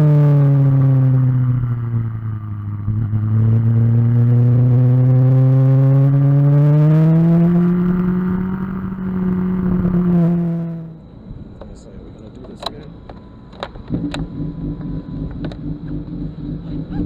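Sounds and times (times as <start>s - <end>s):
sport bike engine revving: 0.0s - 11.0s, 13.9s - 17.0s.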